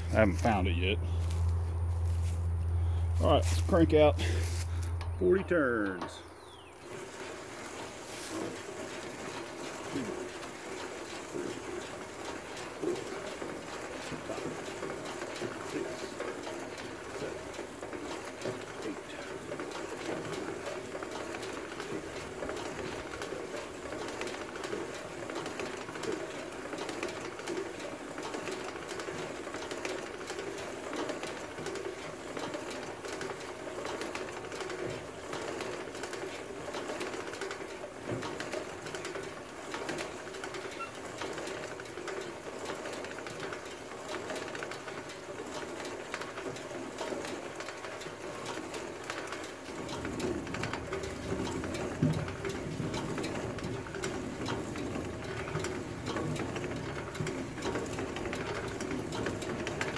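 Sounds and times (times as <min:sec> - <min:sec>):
hand-cranked seeder rattling and clicking: 0:00.0 - 0:59.9.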